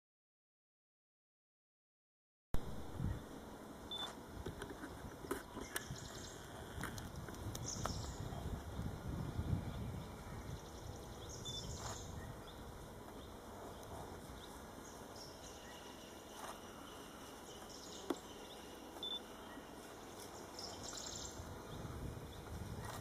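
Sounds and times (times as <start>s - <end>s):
faint outdoor background hiss: 2.6s - 23.0s.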